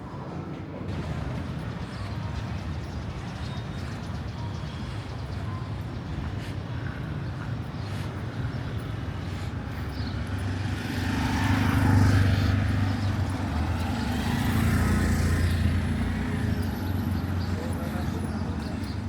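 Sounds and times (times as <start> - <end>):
street traffic: 0.2 - 19.0.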